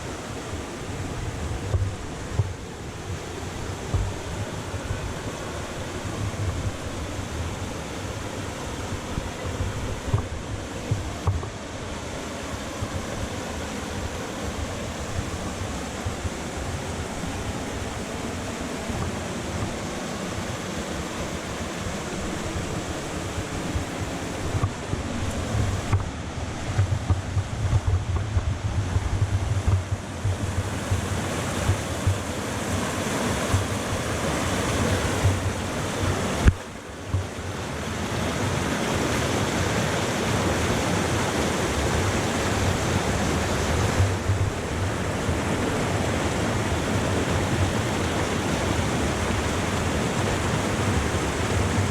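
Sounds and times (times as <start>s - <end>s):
waterfall rushing: 0.0s - 28.2s, 29.1s - 51.9s
wind buffeting microphone: 0.0s - 51.9s.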